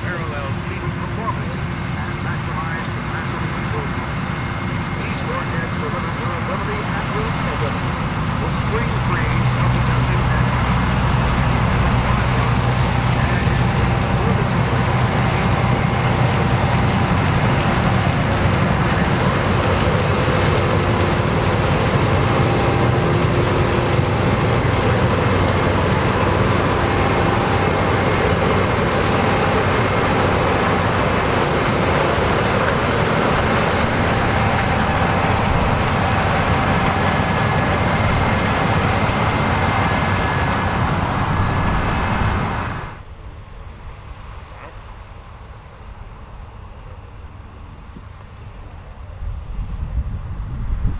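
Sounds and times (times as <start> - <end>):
combine harvester machinery drone: 0.0 - 50.9.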